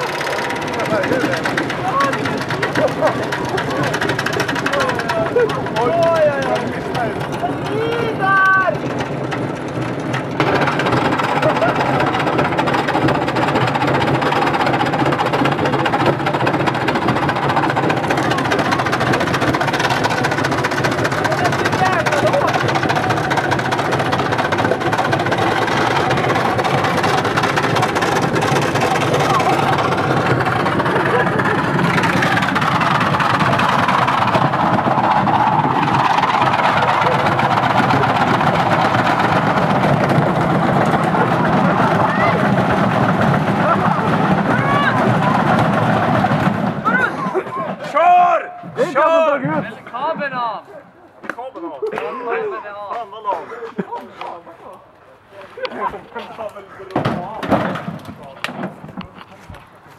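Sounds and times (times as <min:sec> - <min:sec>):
washing machine running: 0:00.0 - 0:49.4.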